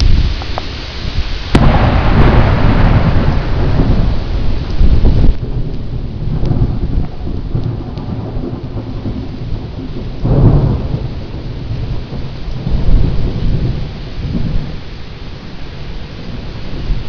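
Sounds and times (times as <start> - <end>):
steady rain: 0.0 - 17.0
thunder rumble: 0.0 - 17.0.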